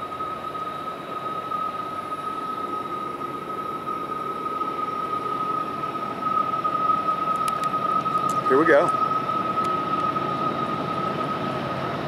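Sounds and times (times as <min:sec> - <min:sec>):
locomotive rumble: 0:00.0 - 0:12.0.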